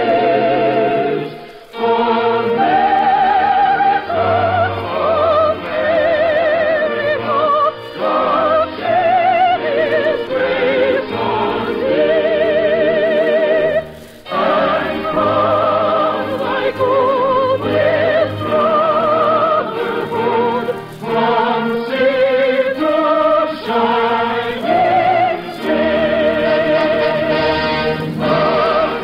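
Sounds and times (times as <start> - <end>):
operatic singing with vibrato: 0.0 - 29.0
orchestra and choir: 0.0 - 29.0.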